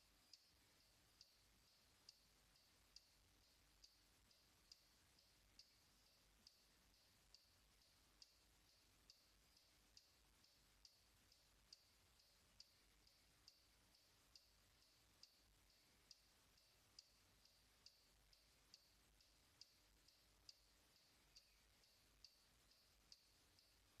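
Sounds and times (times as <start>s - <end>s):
faint high-pitched ticking: 0.0s - 24.0s.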